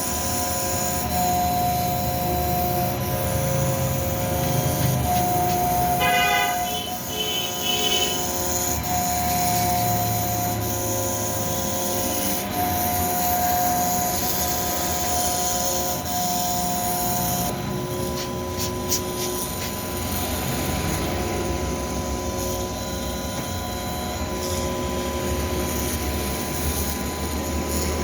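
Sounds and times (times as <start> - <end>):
milling machine spindle whine: 0.0 - 28.0.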